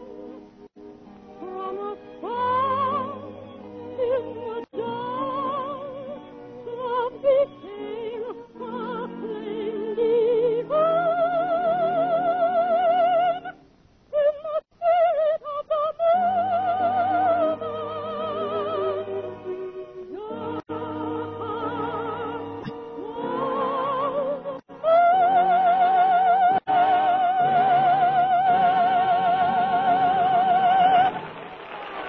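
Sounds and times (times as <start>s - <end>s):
musical accompaniment: 0.0s - 13.7s, 16.1s - 32.0s
soprano singing operatic song: 1.3s - 31.2s.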